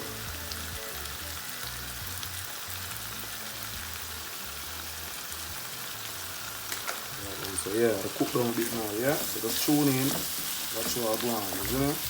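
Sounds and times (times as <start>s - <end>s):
low background music: 0.0s - 12.0s
sizzling in a pot: 0.0s - 12.0s.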